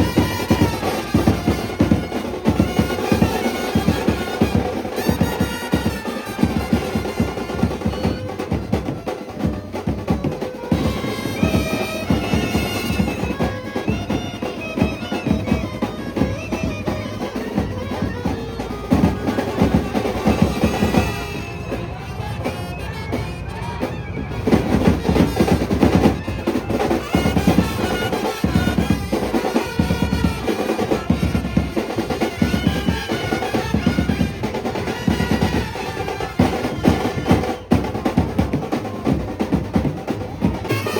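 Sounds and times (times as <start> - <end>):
horn melody: 0.0 - 17.6, 18.3 - 38.1, 40.4 - 40.9
brass band playing: 0.0 - 40.9
snare and bass drum beats: 0.0 - 40.9.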